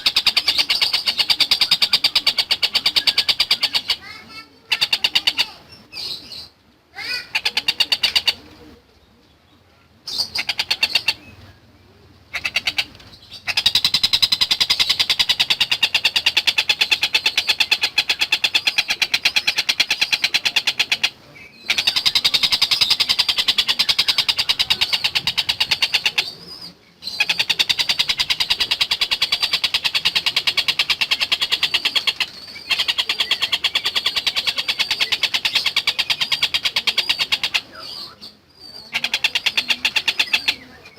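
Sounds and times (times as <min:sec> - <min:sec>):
kingfisher chattering rattles: 0:00.0 - 0:05.6, 0:07.0 - 0:08.4, 0:10.2 - 0:11.2, 0:12.3 - 0:38.0, 0:38.7 - 0:40.9.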